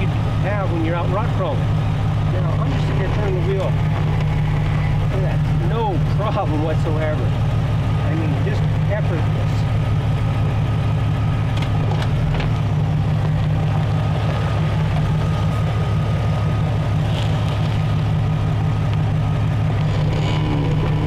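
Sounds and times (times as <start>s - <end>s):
car engine running at low revs: 0.0s - 21.0s.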